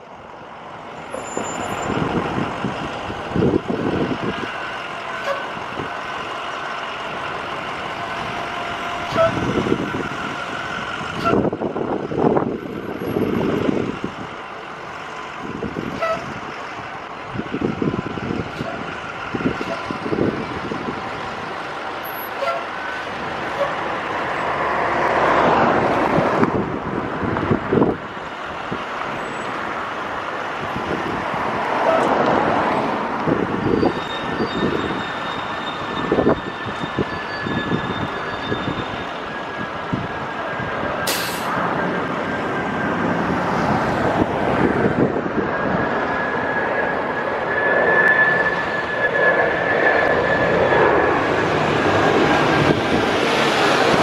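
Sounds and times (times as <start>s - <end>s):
bus diesel engines running: 0.0s - 54.0s
cars passing by: 0.0s - 54.0s.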